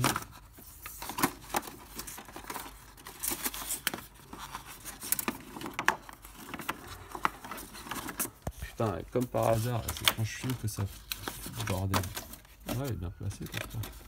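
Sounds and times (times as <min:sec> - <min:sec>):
paper rustling against printer: 0:00.0 - 0:14.0.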